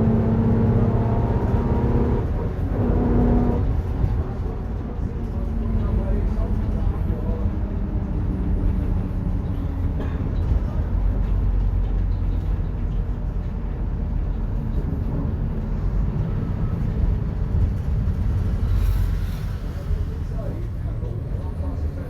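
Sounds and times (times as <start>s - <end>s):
bus drivetrain and road rumble: 0.0s - 22.0s.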